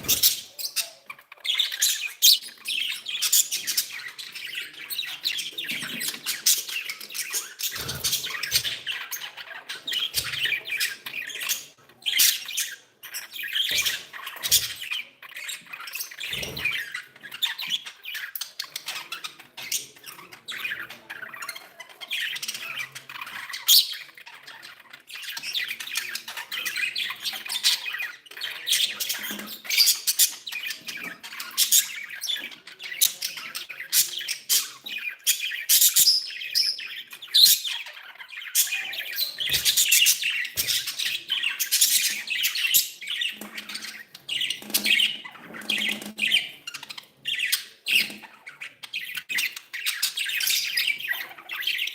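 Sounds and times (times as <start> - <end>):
budgerigars chattering and squawking: 0.0 - 51.9.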